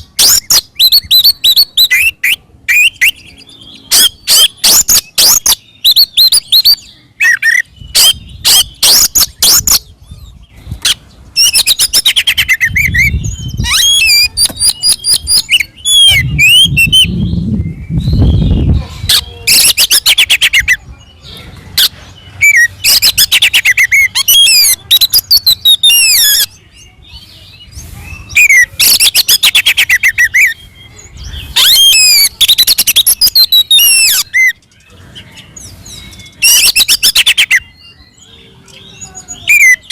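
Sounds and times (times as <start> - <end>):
songbird singing loud whistled phrases: 0.0 - 39.9.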